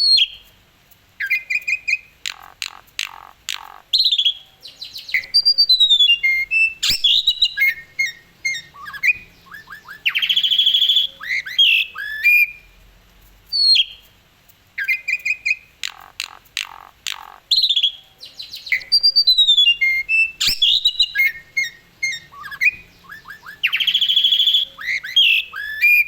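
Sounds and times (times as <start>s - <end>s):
starling singing: 1.2s - 12.7s, 14.8s - 26.0s.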